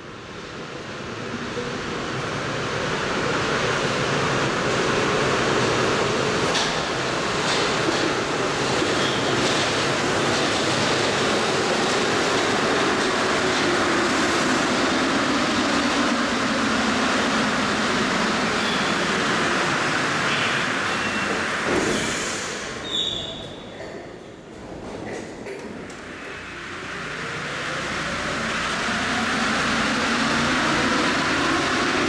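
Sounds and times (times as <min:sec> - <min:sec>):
train rolling rumble: 0:00.0 - 0:32.0.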